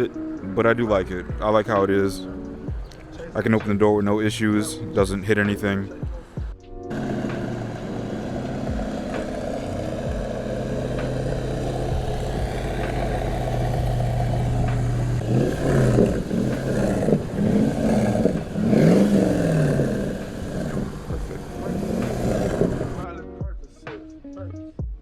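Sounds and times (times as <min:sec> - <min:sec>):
car engine idling and revving: 0:00.0 - 0:23.1.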